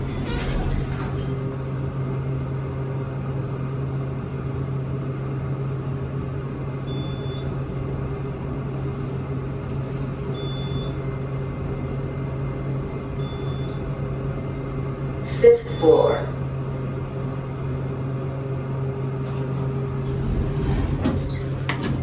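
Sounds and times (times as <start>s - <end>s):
elevator humming: 0.0s - 22.0s.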